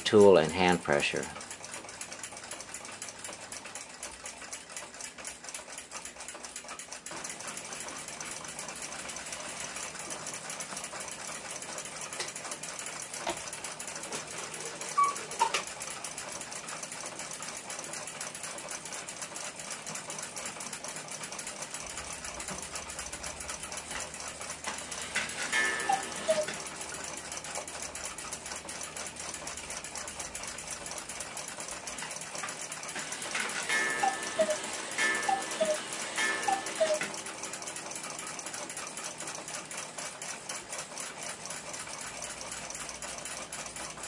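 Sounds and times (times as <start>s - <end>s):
fast mechanical rattle: 0.0s - 44.0s.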